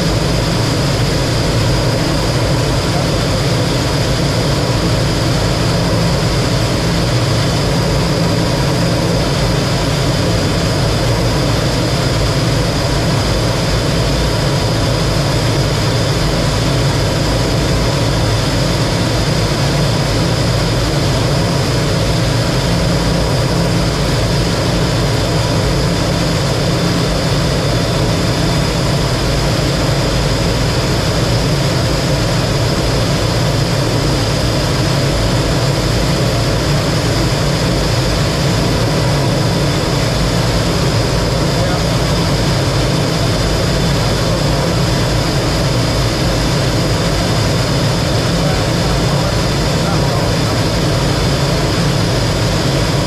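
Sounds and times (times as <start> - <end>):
jet engine roar with whine: 0.0 - 53.0.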